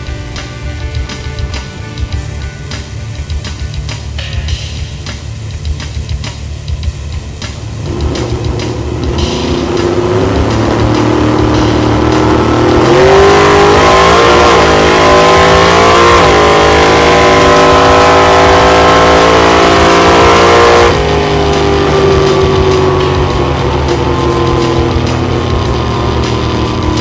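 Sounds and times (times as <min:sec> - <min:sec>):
car engine at full throttle: 0:00.0 - 0:27.0.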